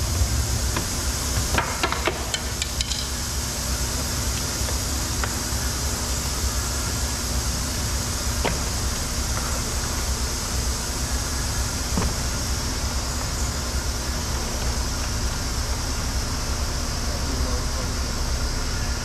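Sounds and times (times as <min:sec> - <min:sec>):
workshop hum and hiss: 0:00.0 - 0:19.0.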